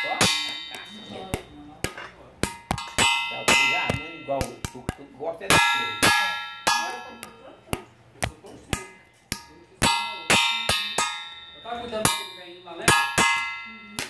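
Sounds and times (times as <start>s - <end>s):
stick striking metal cup: 0.0s - 14.0s.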